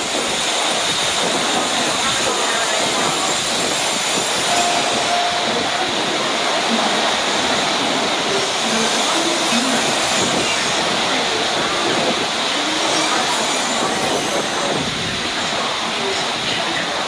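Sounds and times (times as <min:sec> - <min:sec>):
train rushing noise: 0:00.0 - 0:17.0.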